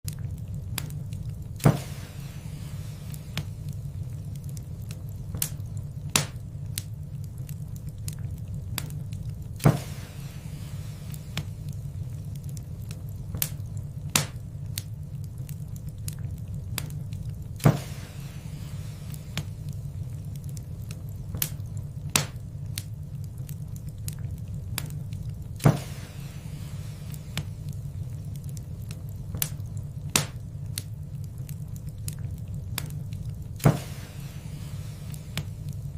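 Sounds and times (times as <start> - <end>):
low rumble of flames: 0.0 - 35.9
wood fire crackling: 0.0 - 35.9
sharp pops and snaps: 0.1 - 35.9.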